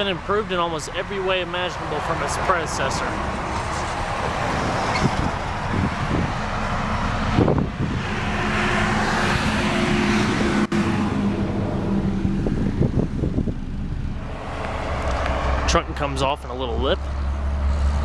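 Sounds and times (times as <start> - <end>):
highway traffic rushing past: 0.0 - 18.0
vehicle engine hum: 0.0 - 18.0.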